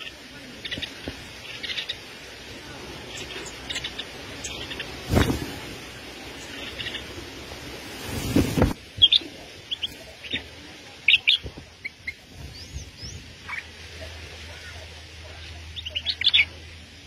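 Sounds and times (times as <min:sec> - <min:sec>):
hissing noise: 0:00.0 - 0:15.9
songbird chirping: 0:00.0 - 0:17.0.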